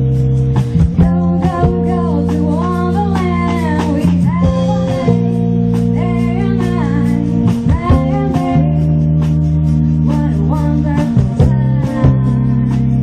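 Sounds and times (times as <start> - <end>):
live band playing: 0.0 - 13.0
sliding bending lead notes: 0.0 - 13.0.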